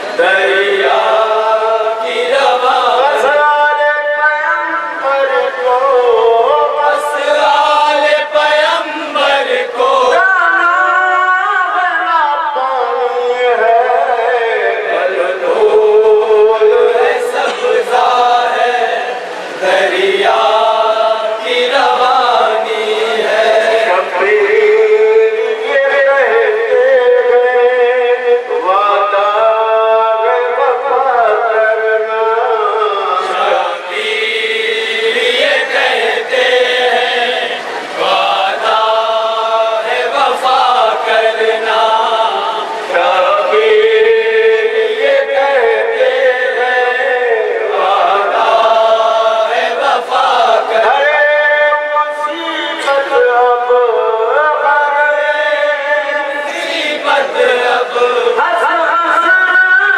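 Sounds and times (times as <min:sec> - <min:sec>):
man chanting a lament: 0:00.0 - 0:59.9.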